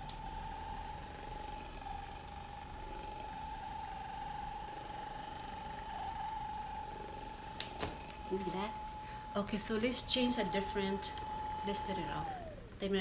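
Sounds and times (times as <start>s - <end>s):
massage gun motor whine: 0.0s - 13.0s.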